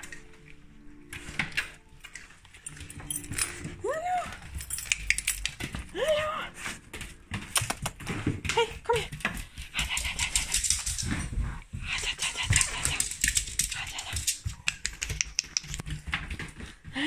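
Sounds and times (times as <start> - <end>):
dog scuffling and claws clicking: 0.0 - 5.9, 6.5 - 16.9.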